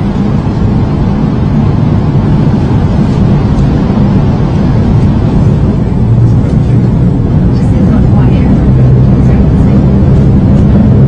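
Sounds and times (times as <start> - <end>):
faint hum: 0.0 - 11.0
train interior rumble: 0.0 - 11.0.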